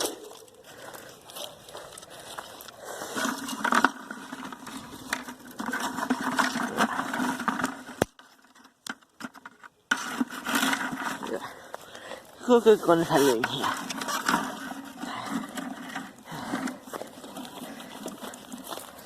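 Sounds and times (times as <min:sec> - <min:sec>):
twigs and leaves crunching: 0:00.0 - 0:19.0.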